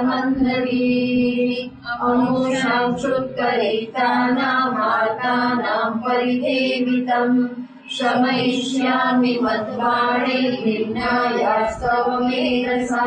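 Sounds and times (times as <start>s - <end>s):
woman chanting: 0.0s - 13.0s.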